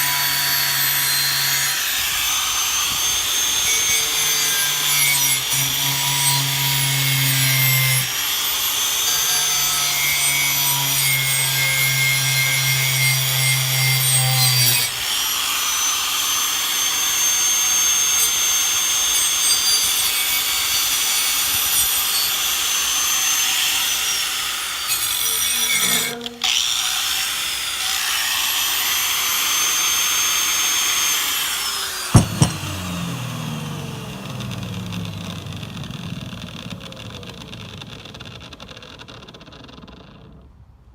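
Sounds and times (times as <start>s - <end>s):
power tool grinding steel: 0.0s - 40.2s.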